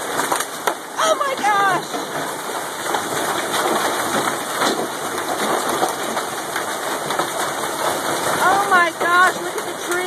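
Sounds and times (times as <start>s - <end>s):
heavy hail pouring down: 0.0s - 10.0s.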